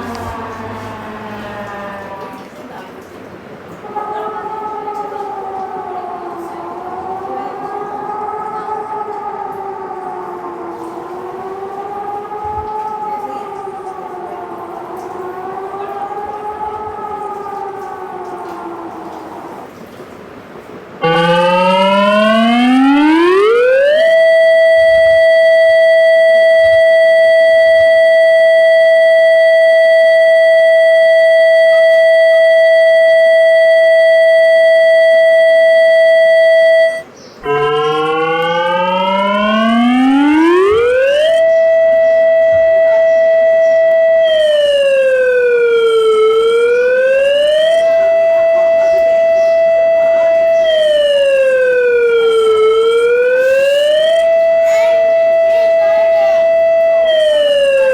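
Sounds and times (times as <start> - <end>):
civil defense warning siren: 0.0 - 57.9.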